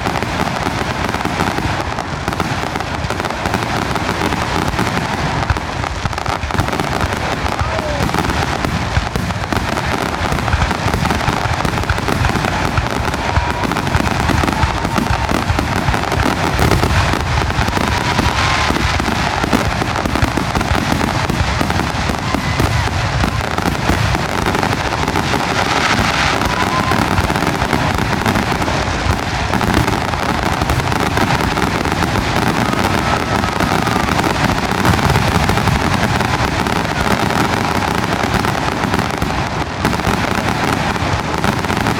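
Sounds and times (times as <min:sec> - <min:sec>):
firework whistles: 0:00.0 - 0:41.9
fireworks bursting and crackling: 0:00.0 - 0:41.9.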